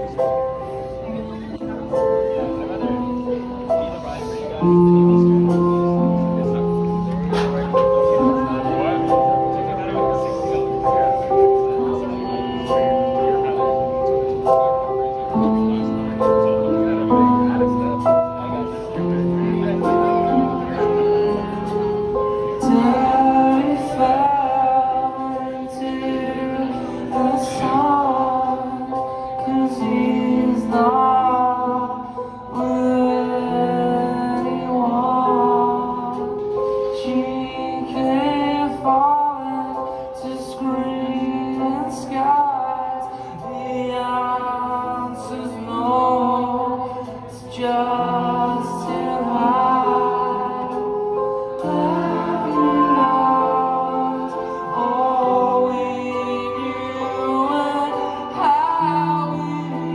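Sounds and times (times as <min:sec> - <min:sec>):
keyboards: 0:00.0 - 0:59.9
person singing: 0:00.0 - 0:59.9.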